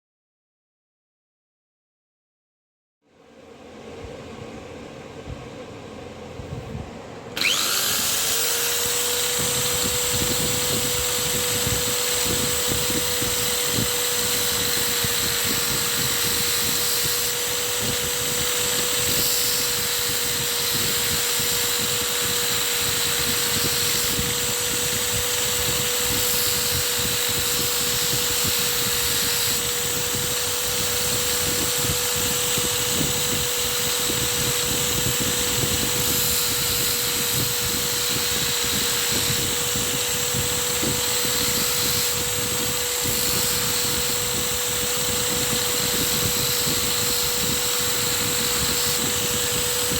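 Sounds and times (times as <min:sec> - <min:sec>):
sharpening machine hiss: 0:07.4 - 0:49.9
sharpening machine whine: 0:07.4 - 0:49.9.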